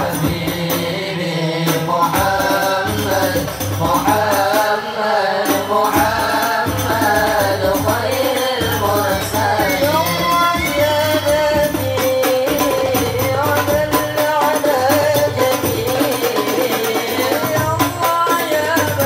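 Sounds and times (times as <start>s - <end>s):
boys singing into microphones: 0.0s - 19.0s
frame drums beating: 0.0s - 19.0s.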